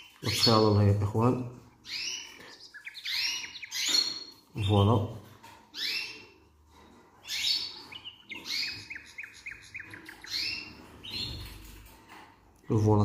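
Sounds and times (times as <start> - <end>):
canaries chirping: 0.0 - 12.9.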